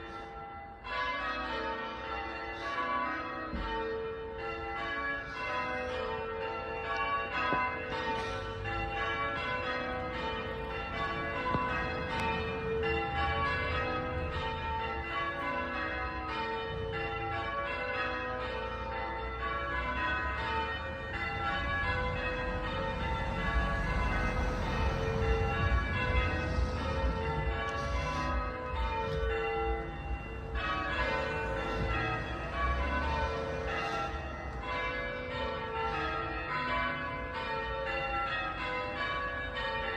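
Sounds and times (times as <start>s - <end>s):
church bells ringing changes: 0.0s - 39.9s.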